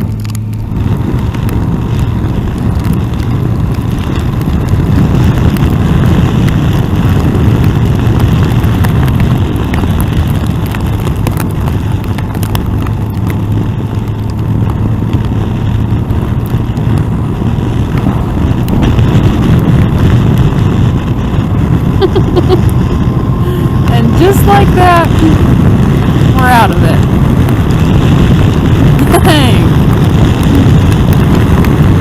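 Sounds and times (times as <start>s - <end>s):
motorcycle engine and wind rumble: 0.0s - 32.0s
rain and hail ticking: 0.0s - 32.0s.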